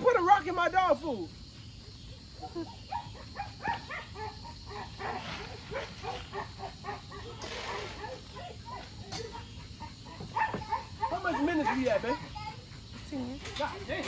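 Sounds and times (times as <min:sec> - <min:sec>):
dogs barking and yelping: 0:01.9 - 0:14.0.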